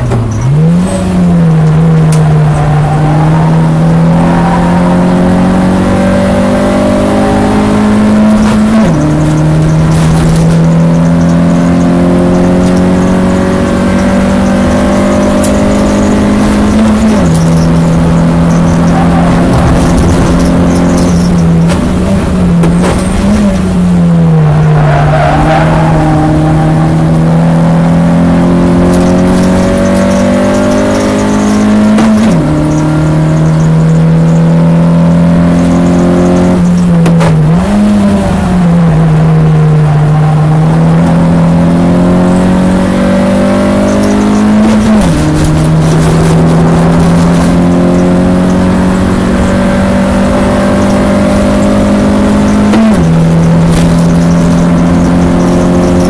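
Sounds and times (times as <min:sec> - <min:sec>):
race car engine at hard throttle: 0:00.0 - 0:56.0
throttle blips on downshifts: 0:00.0 - 0:56.0.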